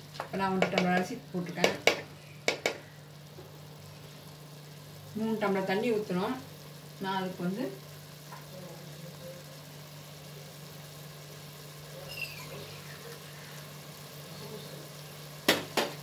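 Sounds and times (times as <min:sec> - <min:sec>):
low mechanical hum: 0:00.0 - 0:16.0
faint hiss: 0:01.0 - 0:16.0.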